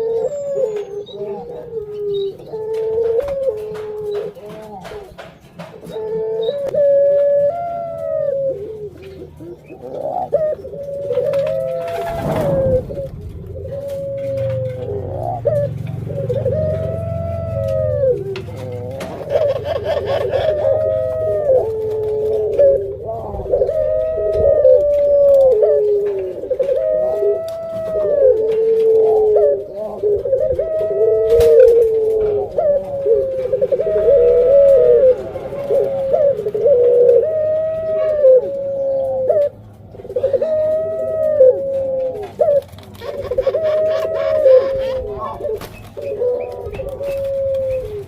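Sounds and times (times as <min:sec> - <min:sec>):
doves cooing: 0:00.0 - 0:48.0.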